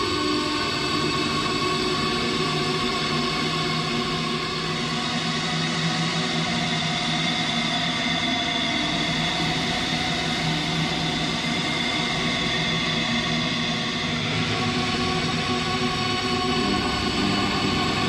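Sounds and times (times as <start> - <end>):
dark ambient drone music: 0.0 - 18.0.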